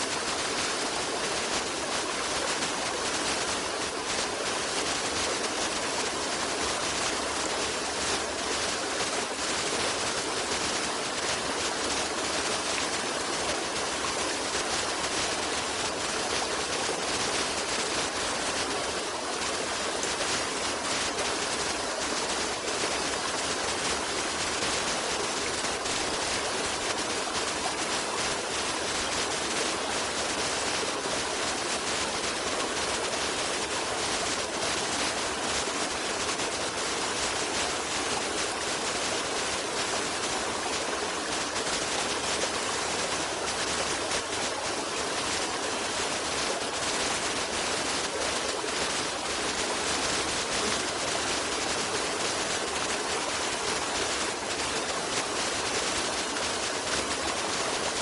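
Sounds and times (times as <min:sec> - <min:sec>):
water rushing in a stream: 0:00.0 - 0:58.0.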